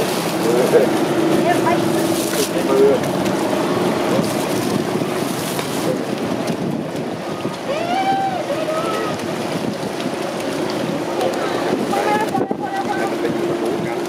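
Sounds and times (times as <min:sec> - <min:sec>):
water churning and splashing: 0:00.0 - 0:14.0
wind on microphone: 0:00.0 - 0:14.0.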